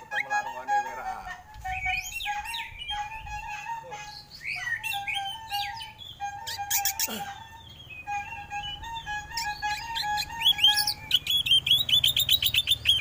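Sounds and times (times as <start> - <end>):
bird singing varied whistles: 1.6 - 13.0.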